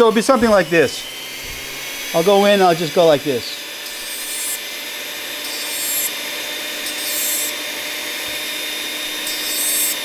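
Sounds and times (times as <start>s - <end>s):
rotary tool whining: 0.0s - 10.0s.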